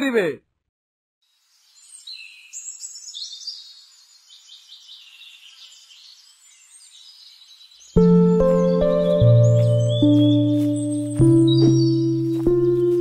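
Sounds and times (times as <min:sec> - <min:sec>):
birds chirping and twittering: 0:01.3 - 0:13.0.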